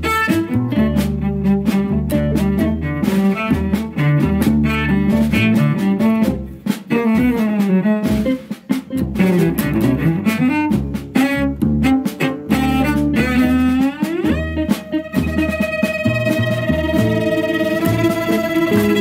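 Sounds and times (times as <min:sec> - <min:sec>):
cello: 0:00.0 - 0:19.0
double bass: 0:00.0 - 0:19.0
drum kit and cymbal hits: 0:00.0 - 0:19.0.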